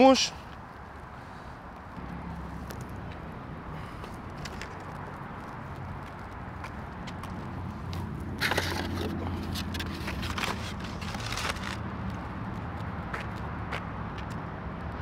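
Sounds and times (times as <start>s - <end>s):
low outdoor hum: 0.0s - 15.0s
crunching crackling noise: 0.4s - 15.0s.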